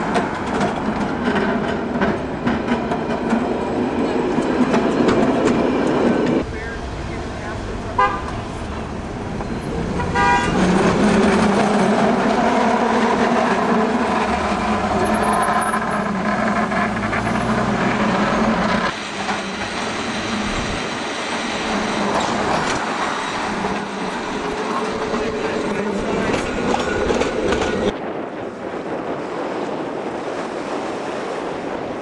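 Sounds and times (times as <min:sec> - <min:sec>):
cable car rolling: 0:00.0 - 0:32.0.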